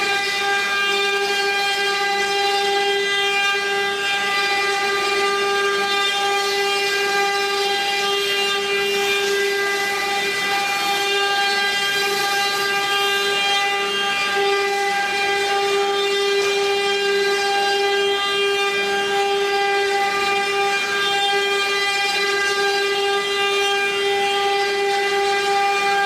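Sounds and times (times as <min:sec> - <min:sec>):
router spindle motors whining: 0:00.0 - 0:26.0.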